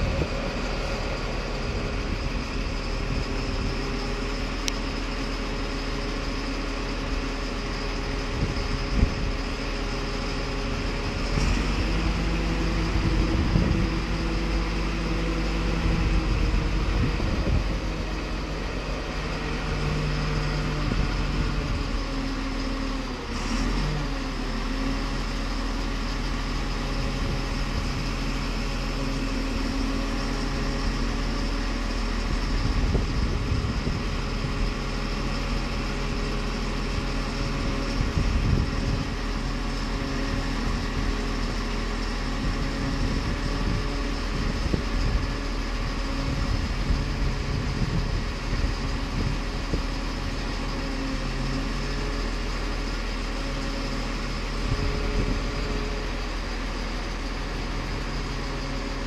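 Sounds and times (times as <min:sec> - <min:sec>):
crane diesel engine running: 0:00.0 - 0:59.0.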